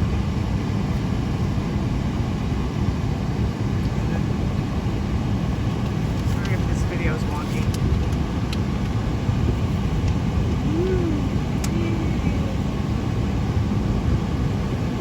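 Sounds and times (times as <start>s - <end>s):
car wash water and machinery rumble: 0.0s - 15.0s.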